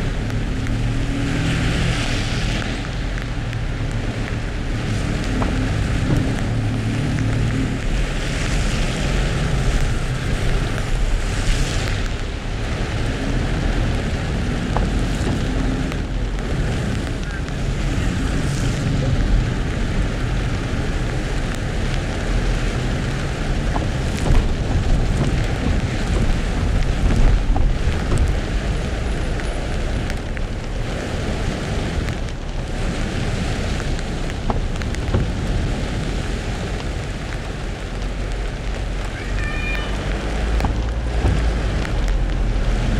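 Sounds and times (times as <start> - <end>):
engine and tyres on wet road: 0.0 - 42.9
rain hiss: 0.0 - 42.9.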